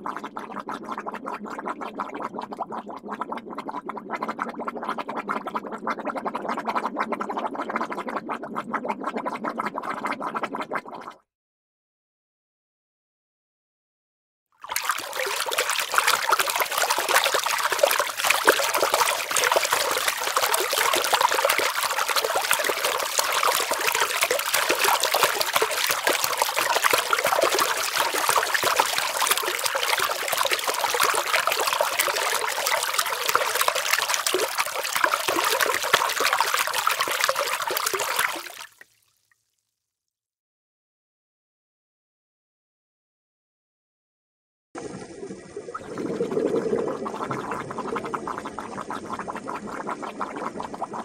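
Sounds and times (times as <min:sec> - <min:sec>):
water trickling and bubbling: 0:00.0 - 0:11.2, 0:14.6 - 0:39.5, 0:44.8 - 0:51.0.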